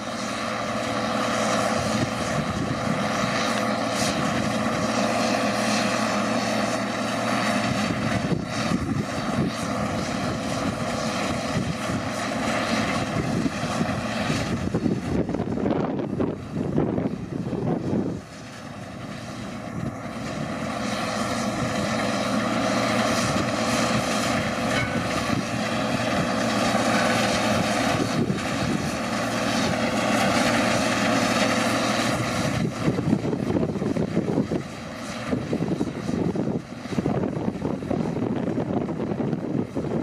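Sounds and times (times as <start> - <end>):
combine harvester engine drone: 0.0 - 40.0
wind buffeting microphone: 1.4 - 6.4, 7.3 - 40.0.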